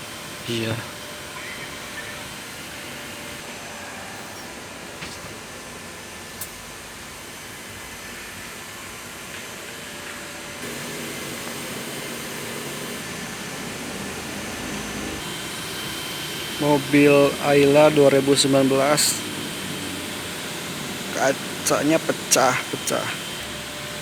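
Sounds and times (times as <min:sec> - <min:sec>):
workshop machine hum and hiss: 0:00.0 - 0:24.0.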